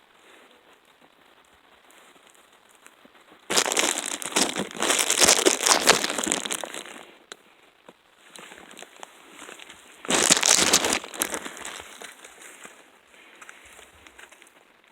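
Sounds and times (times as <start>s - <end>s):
rustling and crackling of brush: 0.0s - 14.9s.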